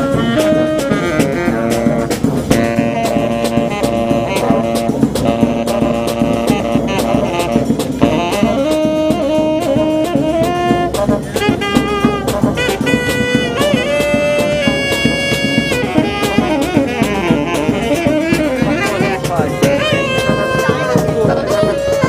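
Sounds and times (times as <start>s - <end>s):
bass drum and snare drum beat: 0.0s - 22.0s
saxophone and brass horns: 0.0s - 22.0s.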